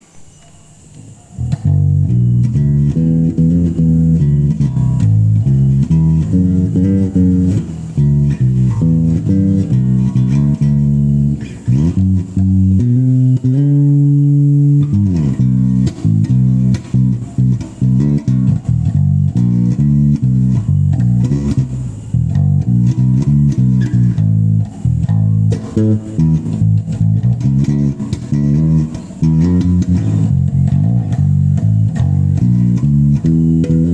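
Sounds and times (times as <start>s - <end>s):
bass guitar plucked notes: 1.4s - 33.9s.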